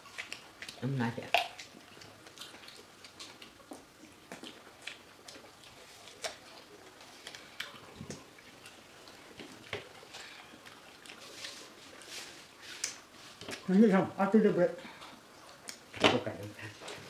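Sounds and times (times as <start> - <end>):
people chewing fruit: 0.0 - 17.0.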